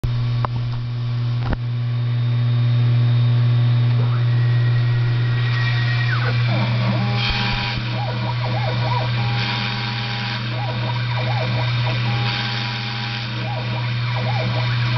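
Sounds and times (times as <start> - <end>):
motor hum: 0.0 - 14.9
stepper motor whine: 0.1 - 14.9.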